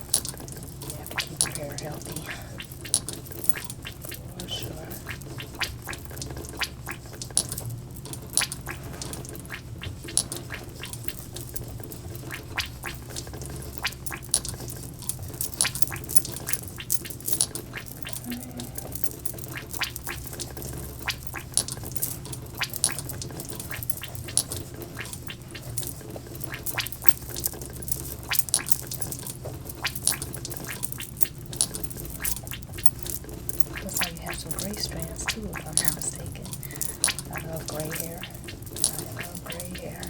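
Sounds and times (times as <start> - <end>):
fingers crackling in oily hair: 0.0 - 40.0.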